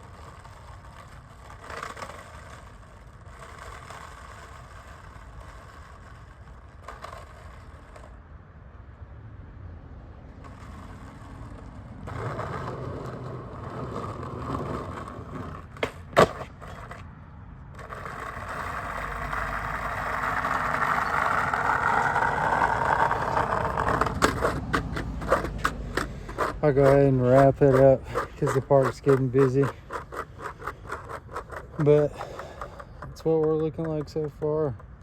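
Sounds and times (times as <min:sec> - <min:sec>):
skateboard clacking: 0:00.0 - 0:08.3, 0:10.3 - 0:35.0
skateboard wheels rolling on concrete: 0:00.0 - 0:35.0.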